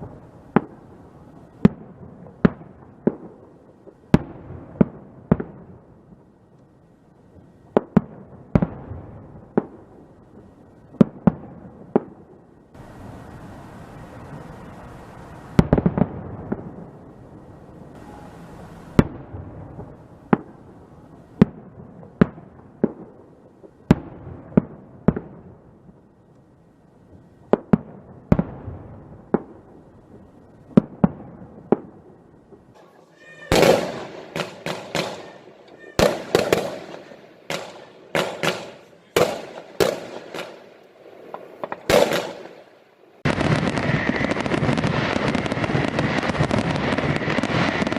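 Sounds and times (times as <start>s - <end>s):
fireworks bangs: 0.0s - 6.4s, 7.3s - 26.2s, 27.0s - 47.9s
fireworks bursts with crackling: 0.0s - 47.9s.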